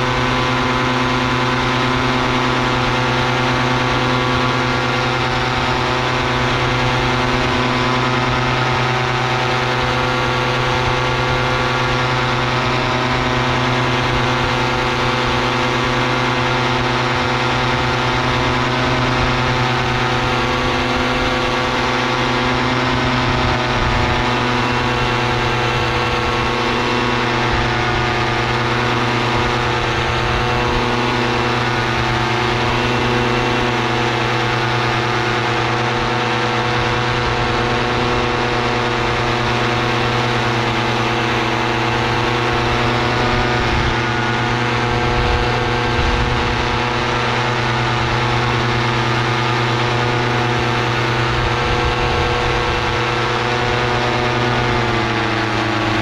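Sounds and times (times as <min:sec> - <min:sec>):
paramotor engine drone: 0:00.0 - 0:56.0.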